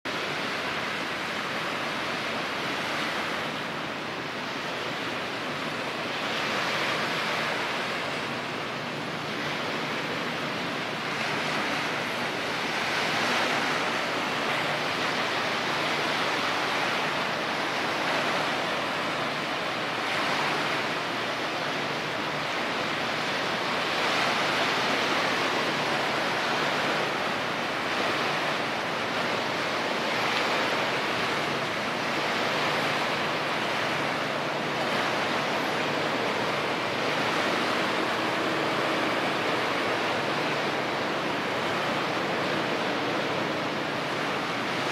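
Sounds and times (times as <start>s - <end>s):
water rushing: 0.0s - 44.9s.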